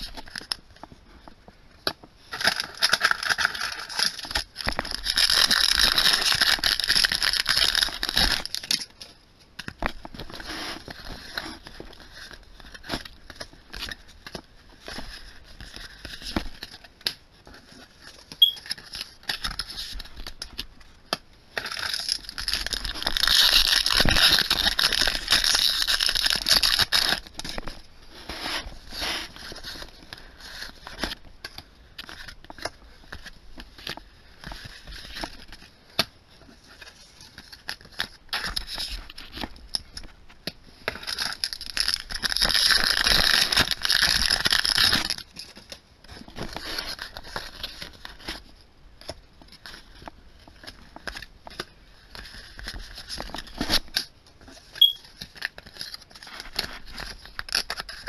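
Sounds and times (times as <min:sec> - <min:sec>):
cards being handled and flipped: 0:00.0 - 0:58.0
foil wrappers crinkling and tearing: 0:02.3 - 0:20.9, 0:21.5 - 0:58.0.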